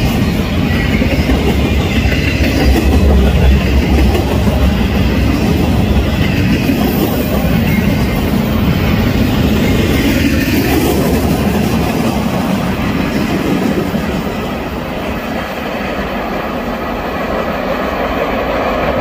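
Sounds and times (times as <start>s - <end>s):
steel wheels rolling on rails: 0.0s - 19.0s.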